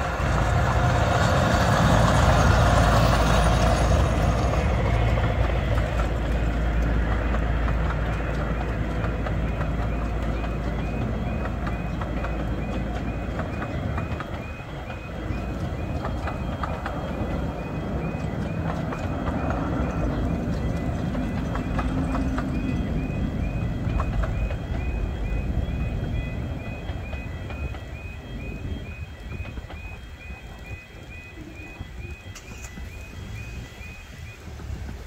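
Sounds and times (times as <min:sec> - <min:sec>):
electronic crossing alarm tone: 0:00.0 - 0:35.0
train wagons rumbling: 0:00.0 - 0:35.0
wheels clicking over rail joints: 0:00.0 - 0:35.0.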